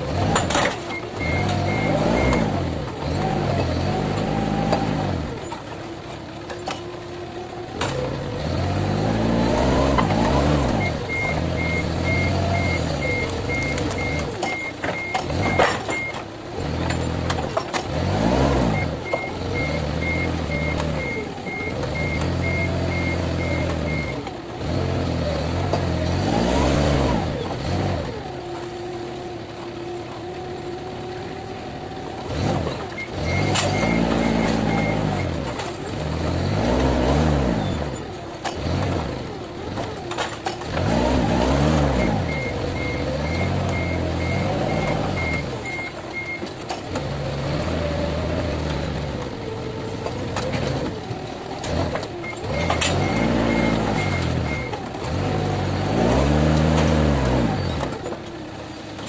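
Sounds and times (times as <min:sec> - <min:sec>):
forklift engine revving: 0:00.0 - 0:59.0.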